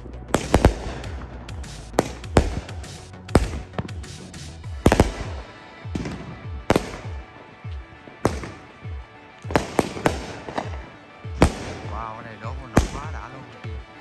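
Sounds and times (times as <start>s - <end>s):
firework bangs: 0.0s - 13.4s
fireworks crackling: 0.0s - 14.0s.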